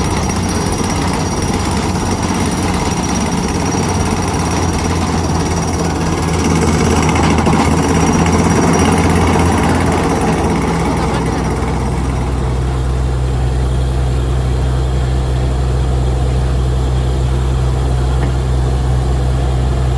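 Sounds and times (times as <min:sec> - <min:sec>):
diesel machinery hammering: 0:00.0 - 0:19.9.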